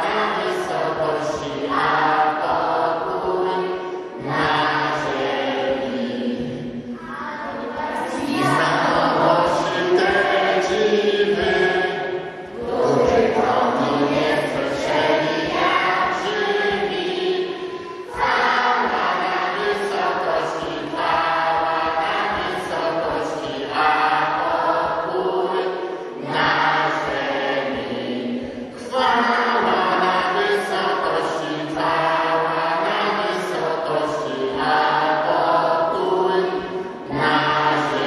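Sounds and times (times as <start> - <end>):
group singing a carol: 0.0 - 38.0.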